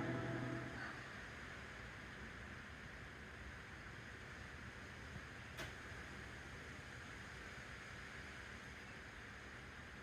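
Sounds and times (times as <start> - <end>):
tape hiss and hum: 0.0 - 10.0.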